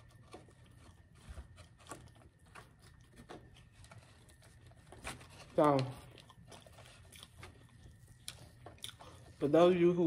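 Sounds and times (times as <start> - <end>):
person eating quietly: 0.0 - 10.0.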